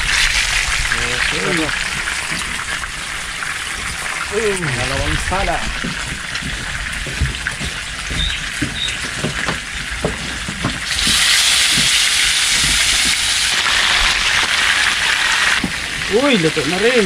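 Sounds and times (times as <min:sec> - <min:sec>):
food sizzling in hot oil: 0:00.0 - 0:17.0
oil popping: 0:00.0 - 0:17.0.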